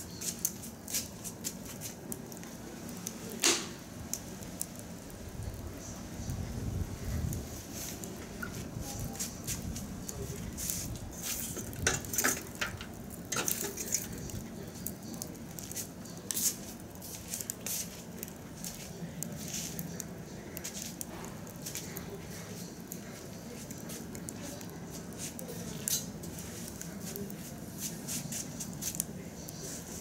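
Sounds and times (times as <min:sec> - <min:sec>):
burning wood crackling: 0:00.0 - 0:30.0.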